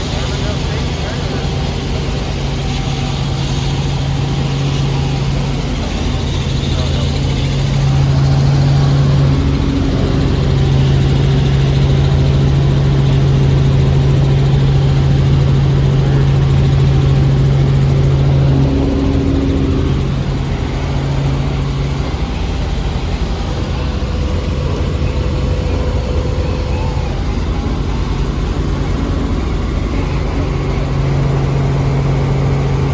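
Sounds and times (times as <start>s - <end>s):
helicopter rotor and engine drone: 0.0s - 32.9s.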